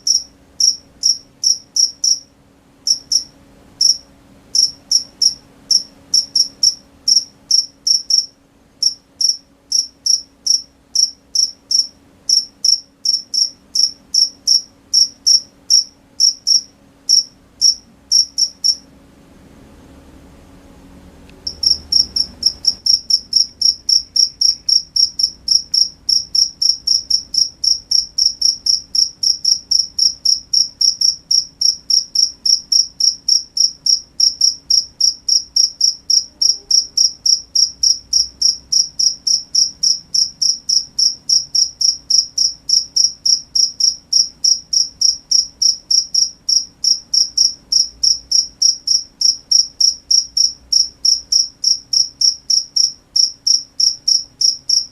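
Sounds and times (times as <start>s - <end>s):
cricket chirping: 0.0s - 18.8s, 21.4s - 54.9s.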